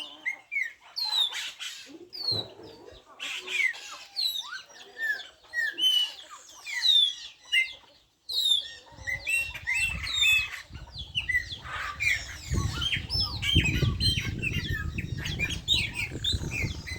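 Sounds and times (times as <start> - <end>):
birds singing: 0.0 - 16.9.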